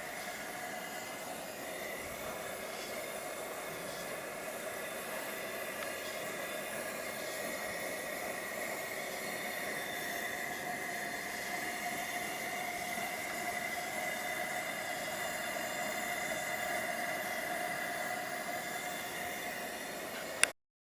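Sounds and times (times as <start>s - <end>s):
camping stove burner hissing: 0.0s - 20.6s.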